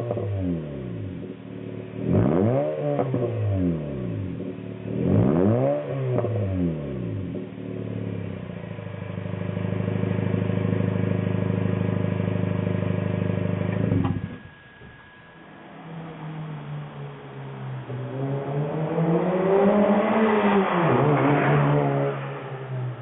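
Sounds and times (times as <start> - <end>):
car engine revving: 0.0 - 14.4, 15.4 - 23.0.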